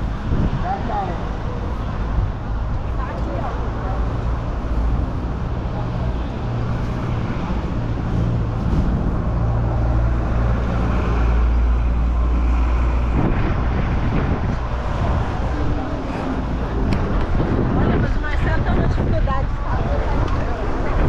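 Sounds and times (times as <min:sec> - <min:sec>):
road traffic: 0:00.0 - 0:21.0
wind rumbling on microphone: 0:00.0 - 0:21.0.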